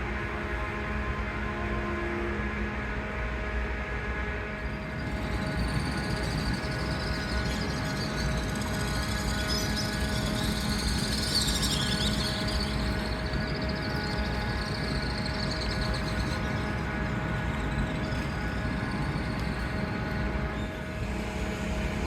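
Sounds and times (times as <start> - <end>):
machinery hum with held tones: 0.0 - 22.0.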